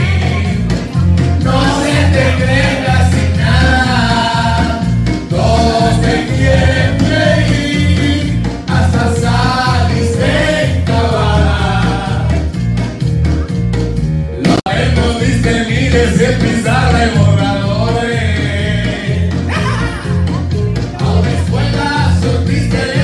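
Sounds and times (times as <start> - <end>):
men singing in harmony: 0.0 - 12.6, 14.4 - 20.2, 21.0 - 23.0
pulsing bass line: 0.0 - 23.0.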